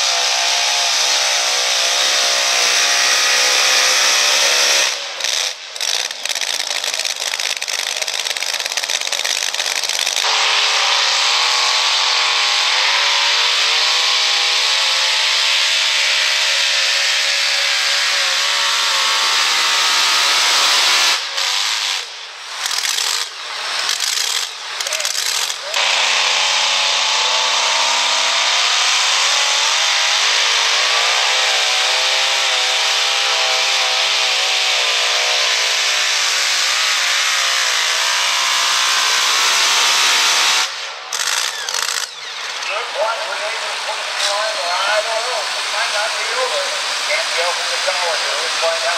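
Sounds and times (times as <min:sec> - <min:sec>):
pulling truck engines at full throttle: 0:00.0 - 0:48.9.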